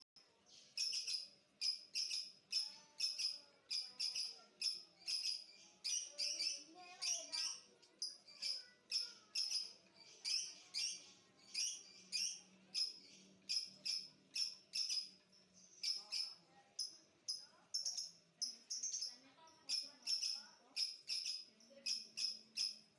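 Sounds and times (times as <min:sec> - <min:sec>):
songbird chirping: 0:00.0 - 0:22.9.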